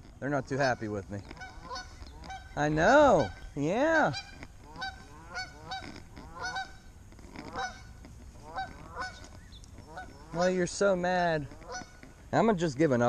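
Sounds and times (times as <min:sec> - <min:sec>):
geese honking: 0:00.3 - 0:13.0.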